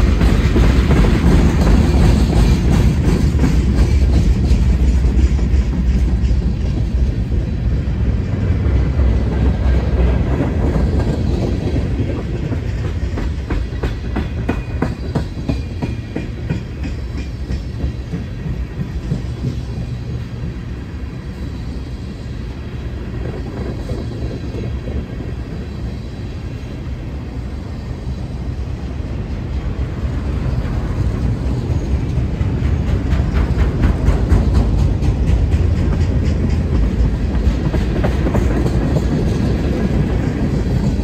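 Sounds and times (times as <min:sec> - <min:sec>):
wheels clicking over rail joints: 0:00.0 - 0:21.4, 0:29.2 - 0:41.0
train low rumble: 0:00.0 - 0:41.0.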